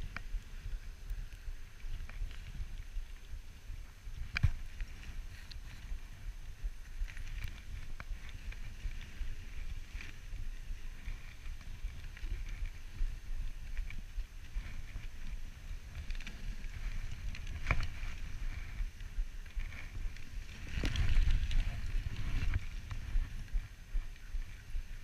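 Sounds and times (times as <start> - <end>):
sled creaks and scrapes: 0.0 - 24.8
sled runners rumbling on snow: 0.0 - 25.0
wind on microphone: 0.0 - 25.0.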